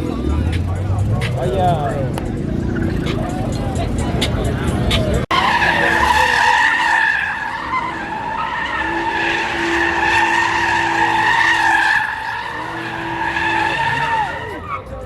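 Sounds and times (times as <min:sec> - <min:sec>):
car tyres squealing: 0:00.2 - 0:15.0.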